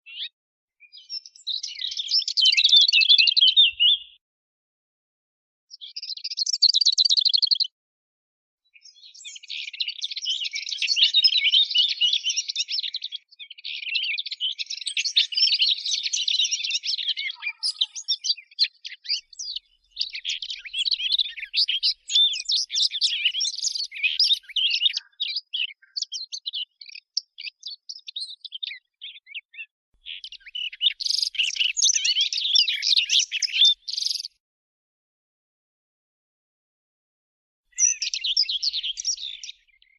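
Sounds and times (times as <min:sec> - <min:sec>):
warbler song: 0:00.0 - 0:04.2, 0:05.7 - 0:07.8, 0:08.6 - 0:34.4, 0:37.7 - 0:39.9.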